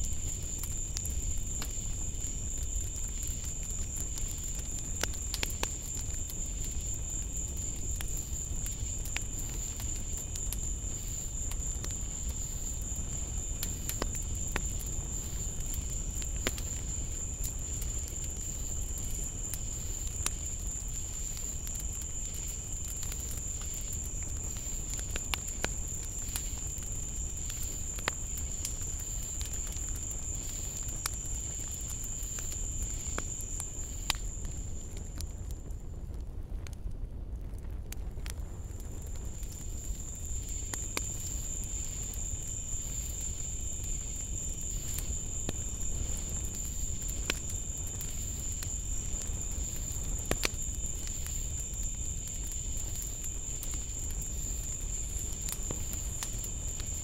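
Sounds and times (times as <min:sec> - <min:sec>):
low insect trill: 0:00.0 - 0:35.3, 0:39.4 - 0:57.0
insects chirping chorus: 0:00.0 - 0:35.5, 0:39.0 - 0:57.0.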